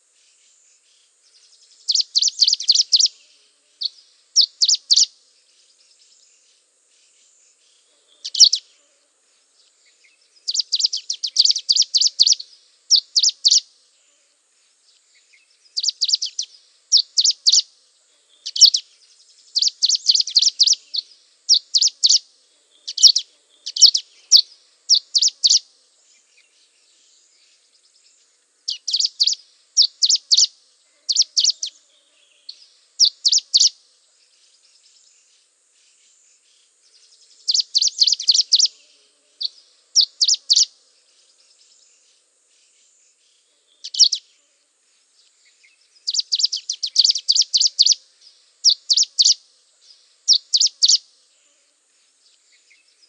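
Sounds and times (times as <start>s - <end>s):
songbird chirping: 0.0s - 53.0s.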